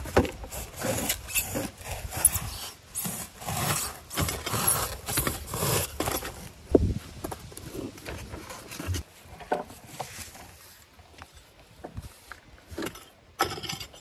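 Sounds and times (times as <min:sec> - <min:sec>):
hand tool scraping stony soil: 0:00.0 - 0:14.0.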